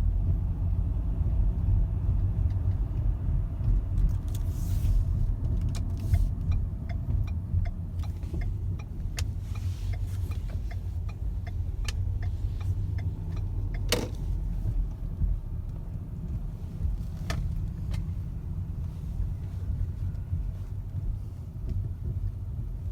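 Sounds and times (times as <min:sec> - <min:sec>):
car engine rumble: 0:00.0 - 0:22.9
suspension clunk: 0:02.5 - 0:22.9.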